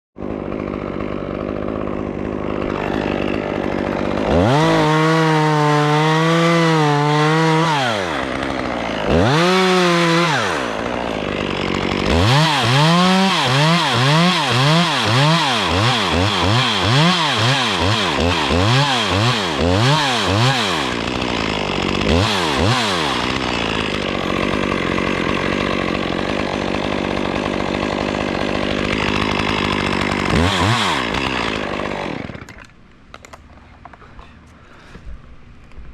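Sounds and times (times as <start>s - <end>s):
chainsaw idling and revving: 0.2s - 34.9s.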